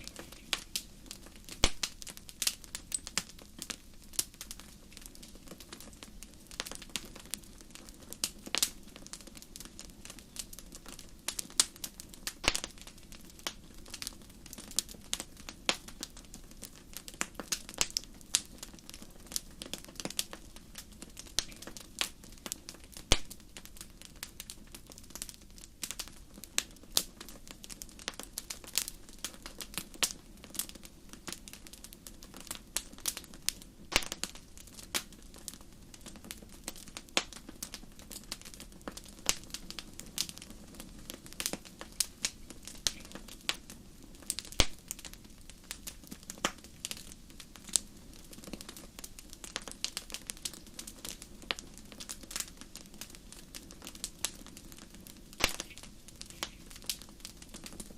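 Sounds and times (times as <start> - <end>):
campfire crackling and popping: 0.0 - 57.9
low rush of flames: 0.0 - 57.9.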